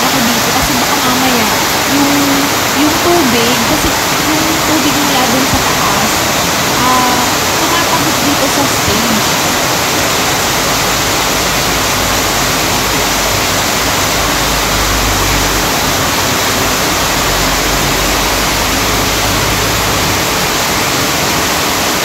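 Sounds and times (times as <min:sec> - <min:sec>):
heavy rain on trees and ground: 0:00.0 - 0:22.0.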